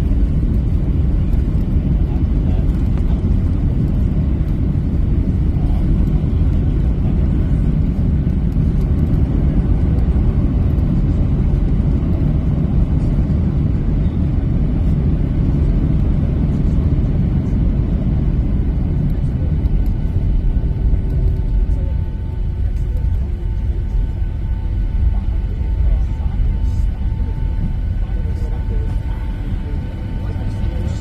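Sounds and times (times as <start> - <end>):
jet airliner cabin rumble: 0.0 - 31.0.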